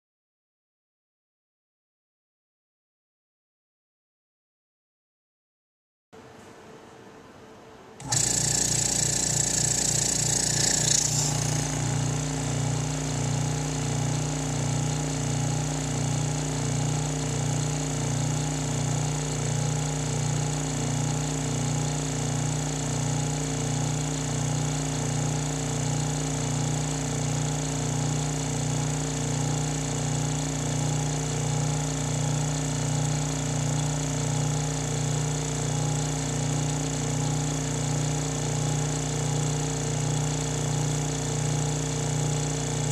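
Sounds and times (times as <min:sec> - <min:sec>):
vacuum pump running: 0:08.0 - 0:42.9.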